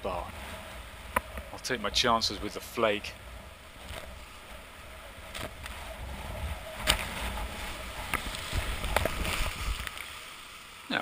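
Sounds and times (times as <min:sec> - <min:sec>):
water splashing over kayak: 0:00.0 - 0:11.0
whitewater rushing: 0:00.0 - 0:11.0.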